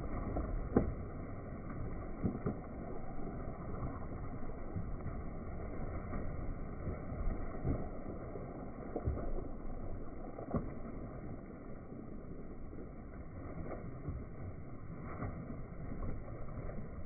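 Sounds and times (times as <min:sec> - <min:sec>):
sharp splashes: 0:00.0 - 0:17.0
water gushing from pipe into pond: 0:00.0 - 0:17.0.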